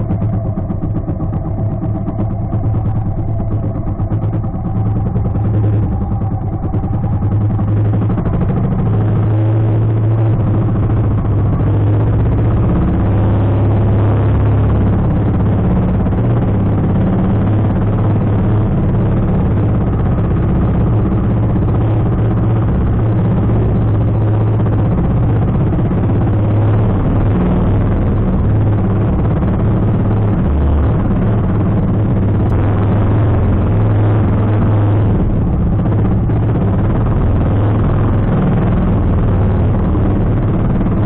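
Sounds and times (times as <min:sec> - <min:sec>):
boat engine drone: 0:00.0 - 0:41.0.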